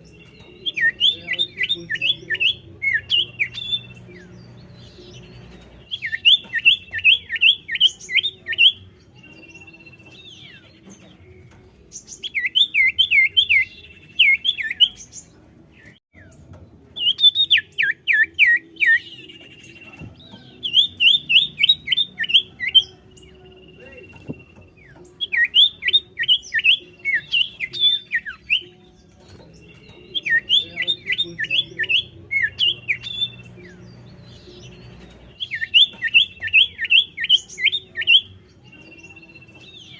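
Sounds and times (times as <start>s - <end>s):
bird song with slurred notes: 0.0s - 39.9s.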